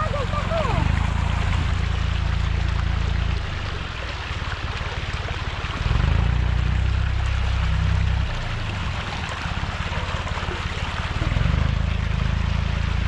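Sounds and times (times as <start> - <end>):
low rumble: 0.0 - 13.0
water rushing and pouring: 0.0 - 13.0.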